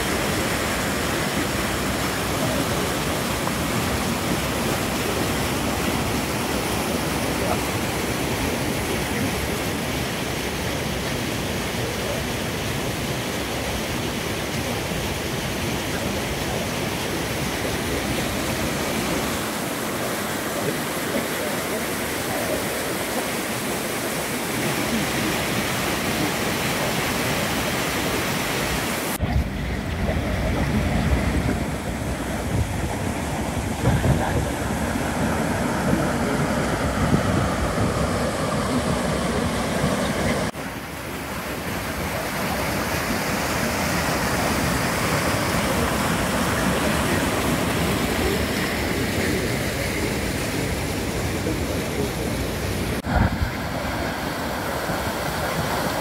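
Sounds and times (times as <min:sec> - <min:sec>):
floodwater rushing over spillway: 0:00.0 - 0:56.0.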